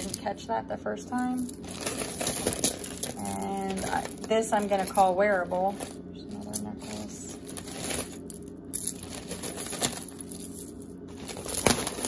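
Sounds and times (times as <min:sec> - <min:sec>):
jewelry clinking and rattling: 0:00.0 - 0:00.3, 0:01.2 - 0:12.0
plastic bags crinkling: 0:01.4 - 0:12.0.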